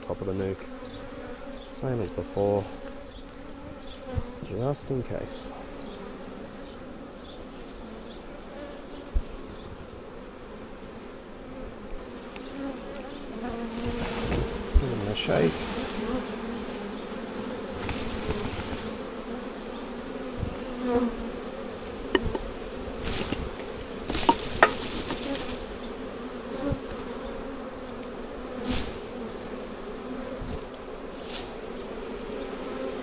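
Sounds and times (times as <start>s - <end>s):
bee swarm buzzing: 0.0s - 33.0s.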